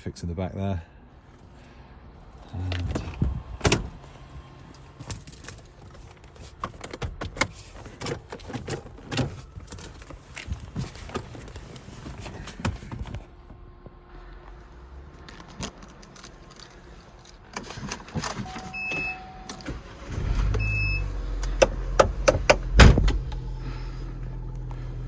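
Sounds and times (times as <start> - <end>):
car engine starting and idling: 1.2 - 25.0.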